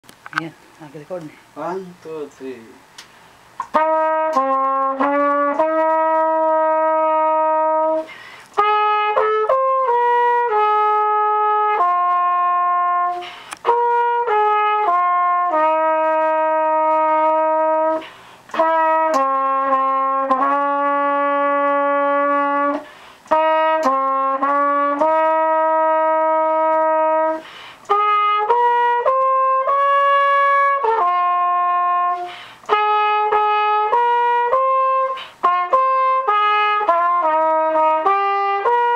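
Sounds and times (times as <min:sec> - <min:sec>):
solo trumpet slow melody: 0:03.6 - 0:38.9.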